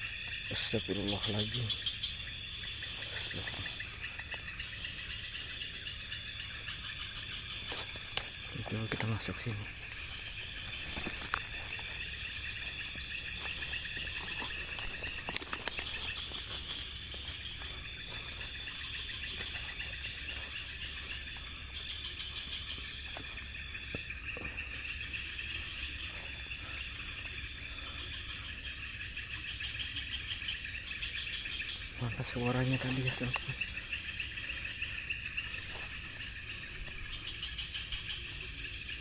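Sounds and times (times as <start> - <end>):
night insects chirping: 0.0 - 39.0.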